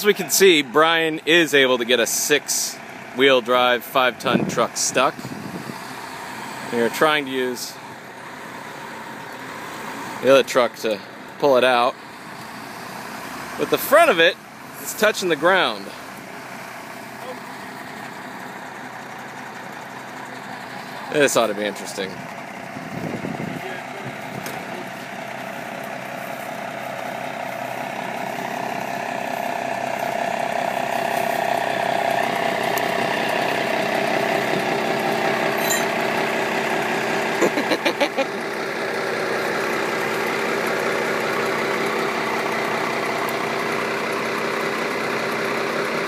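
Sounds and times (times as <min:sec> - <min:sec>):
truck engine running under load: 0:00.0 - 0:46.0.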